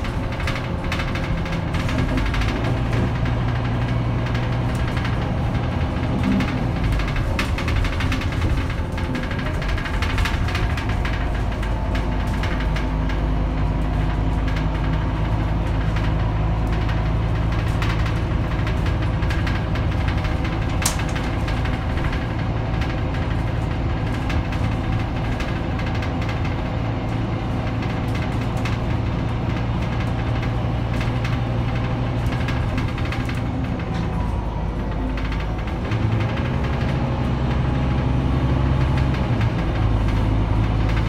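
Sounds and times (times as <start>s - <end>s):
cabin rattle: 0.0s - 37.2s
bus diesel engine drone: 0.0s - 41.0s.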